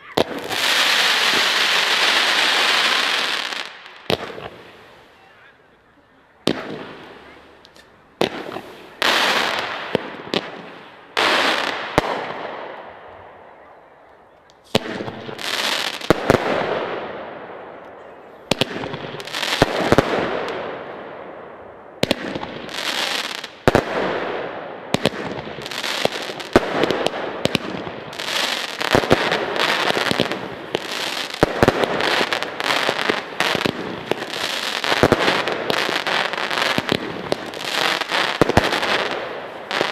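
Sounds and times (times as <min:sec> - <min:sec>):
crackling hiss: 0:06.4 - 0:39.9.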